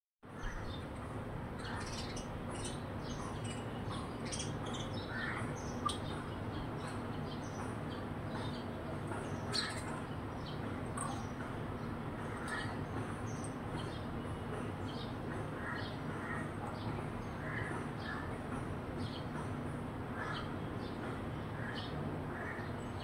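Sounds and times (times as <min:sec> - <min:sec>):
sparrows chirping: 0:00.3 - 0:23.0
steady low hum: 0:00.3 - 0:23.0.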